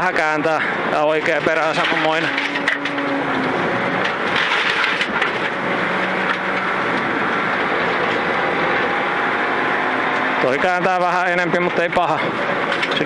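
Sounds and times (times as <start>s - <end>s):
tyre and gravel noise: 0.0s - 13.0s
rally car engine running hard: 0.1s - 13.0s.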